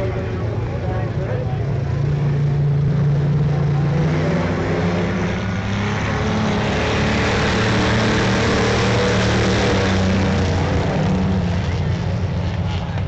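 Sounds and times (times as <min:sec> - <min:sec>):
race car engines at speed: 0:00.0 - 0:13.0.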